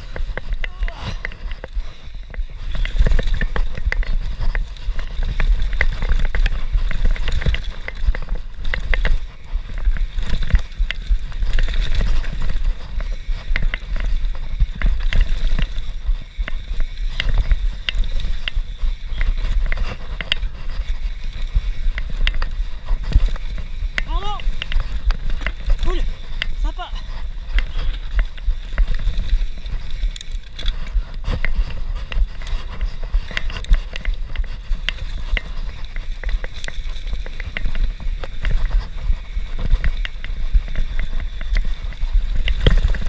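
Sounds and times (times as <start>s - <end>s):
bike rattles and knocks: 0.0s - 43.0s
tyres on dirt and leaves: 0.0s - 43.0s
wind rumble on microphone: 0.0s - 43.0s.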